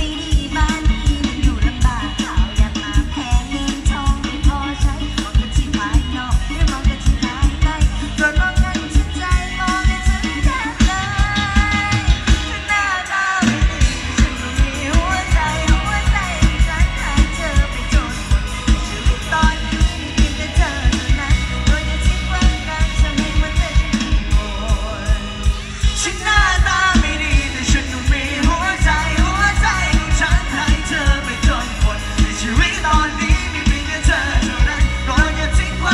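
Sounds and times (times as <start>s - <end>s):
driving drum kit beat: 0.0s - 35.9s
live band playing: 0.0s - 35.9s
person singing: 0.0s - 35.9s.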